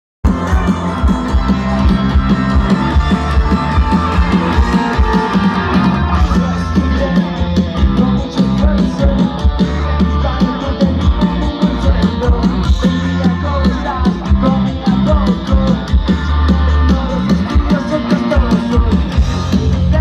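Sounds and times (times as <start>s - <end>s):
drum beat: 0.2s - 20.0s
electric guitars: 0.2s - 20.0s
singer singing into microphone: 3.1s - 20.0s.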